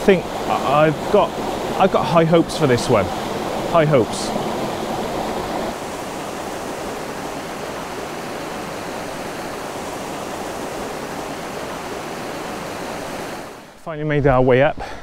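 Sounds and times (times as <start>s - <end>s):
waterfall rushing over rocks: 0.0s - 13.8s.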